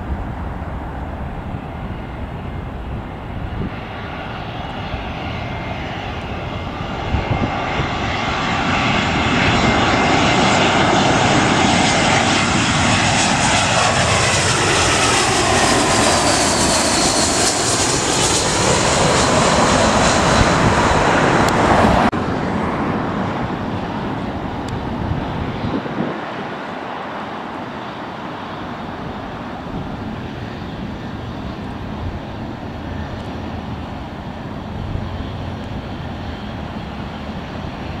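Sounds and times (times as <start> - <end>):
jet passing low overhead: 0.0 - 38.0.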